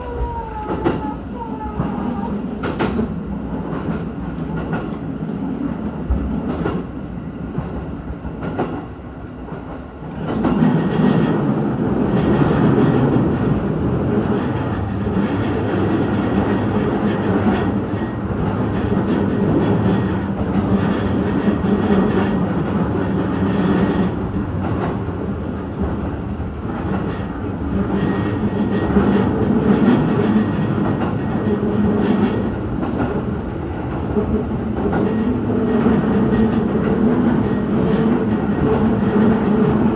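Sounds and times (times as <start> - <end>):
rail joint clicks: 0.0 - 39.9
train wheels rumbling on rail: 0.0 - 39.9.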